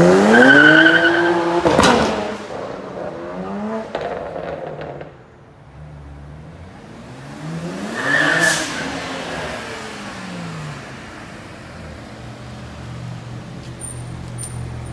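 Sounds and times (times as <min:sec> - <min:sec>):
car engine revving: 0:00.0 - 0:14.9.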